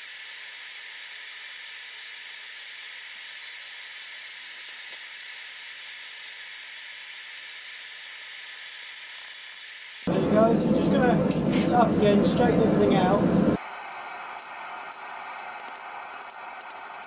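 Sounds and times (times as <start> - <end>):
gas forge burner hissing: 0.0 - 17.0.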